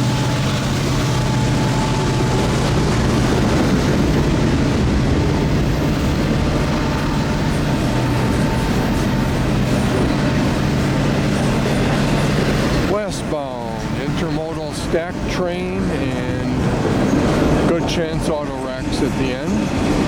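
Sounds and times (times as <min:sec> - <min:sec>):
freight cars rumbling over rails: 0:00.0 - 0:20.0
low diesel engine hum: 0:00.0 - 0:20.0.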